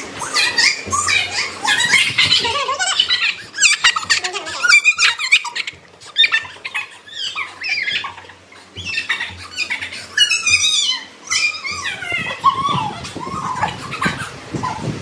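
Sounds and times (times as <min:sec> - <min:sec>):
young child squealing and laughing: 0:00.2 - 0:14.9.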